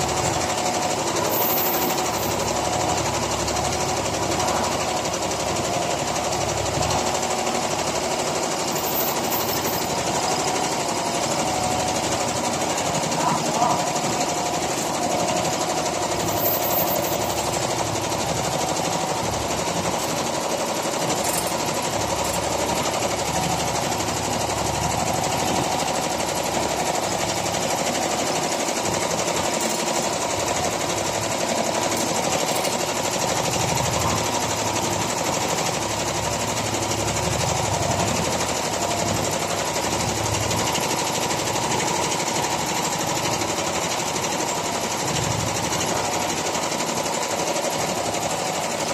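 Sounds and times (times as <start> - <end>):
quilting machine stitching: 0.0 - 48.9.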